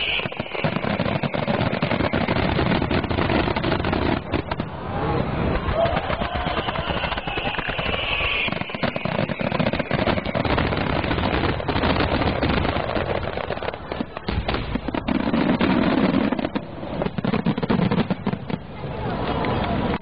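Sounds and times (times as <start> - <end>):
booming firework bursts: 0.0 - 19.3
fireworks bursting and crackling: 0.0 - 20.0.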